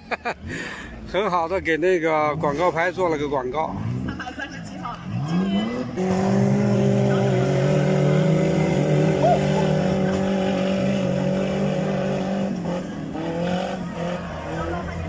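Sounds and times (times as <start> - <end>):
suv engine revving: 2.2 - 15.0.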